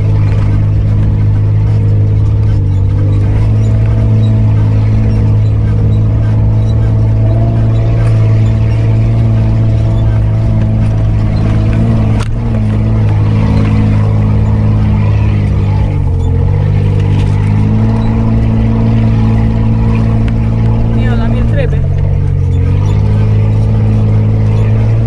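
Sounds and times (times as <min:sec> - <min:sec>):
car engine under load: 0:00.0 - 0:25.0.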